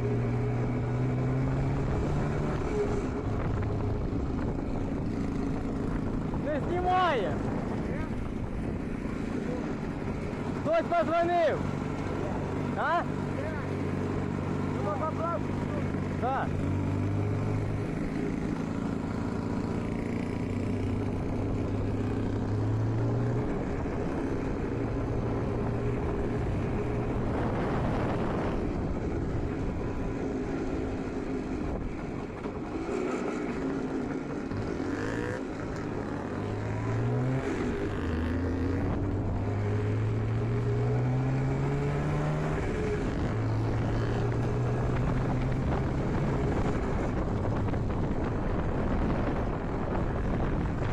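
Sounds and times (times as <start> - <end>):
two-stroke motorcycle engine accelerating: 0.0 - 50.9.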